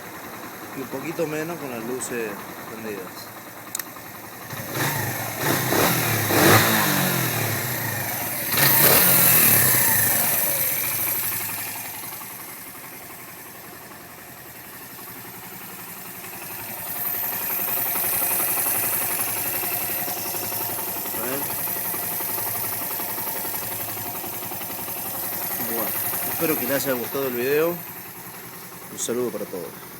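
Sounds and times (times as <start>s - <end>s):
motorcycle engine idling: 0.0s - 29.9s
motorcycle engine revving: 0.8s - 29.9s.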